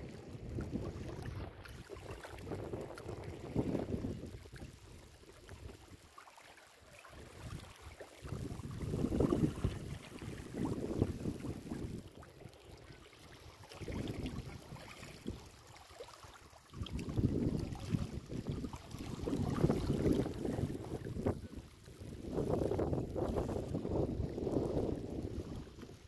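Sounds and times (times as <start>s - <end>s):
wind buffeting the microphone: 0.0s - 6.0s, 7.2s - 15.5s, 16.8s - 26.0s.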